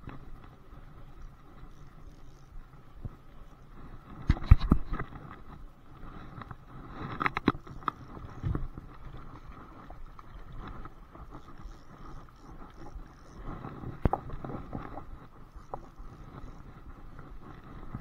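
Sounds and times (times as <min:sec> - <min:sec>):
running water hiss: 0:00.0 - 0:18.0.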